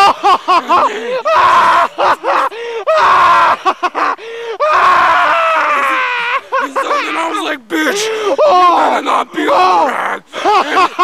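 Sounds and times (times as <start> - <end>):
man laughing hard: 0.0 - 11.0.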